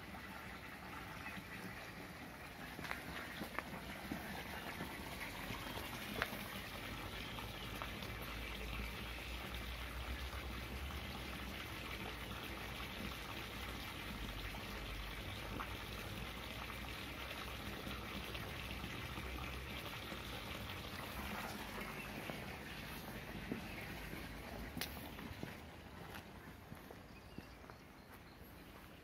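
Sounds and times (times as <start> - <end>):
running water: 0.0 - 27.1.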